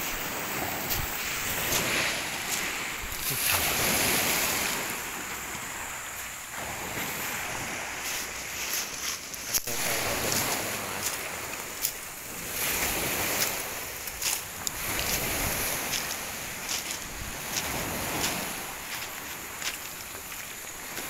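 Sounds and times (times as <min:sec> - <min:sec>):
wind buffeting microphone: 0:00.0 - 0:08.4, 0:09.8 - 0:19.7
waves washing onto pebbles: 0:00.0 - 0:21.0.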